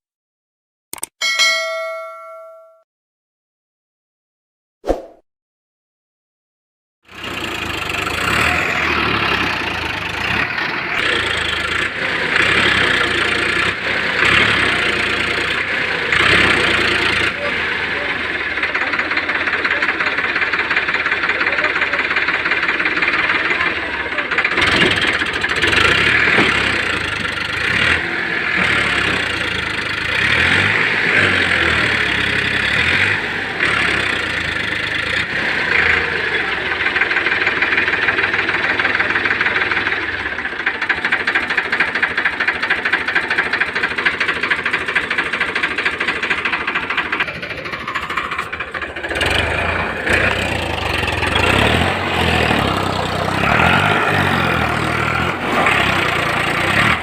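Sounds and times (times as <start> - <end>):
tractor diesel engine clattering: 7.1 - 57.0.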